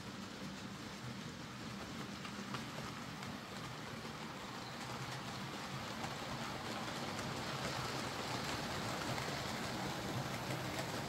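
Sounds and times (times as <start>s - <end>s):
model train wheels rumbling: 0.0s - 11.0s.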